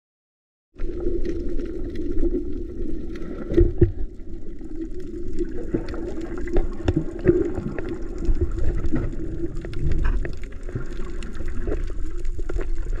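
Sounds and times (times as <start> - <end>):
underwater clicks and crackles: 0.8 - 13.0
underwater rumble and hum: 0.8 - 13.0.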